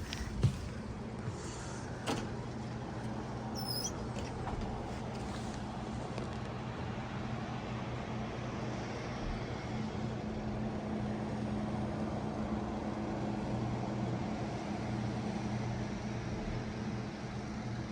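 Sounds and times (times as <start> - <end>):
low machine hum: 0.0 - 17.9.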